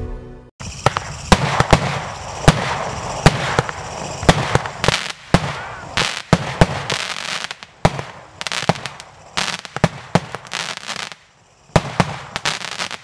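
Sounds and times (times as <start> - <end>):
firework bangs: 0.6 - 13.0
firework crackling: 0.6 - 13.0.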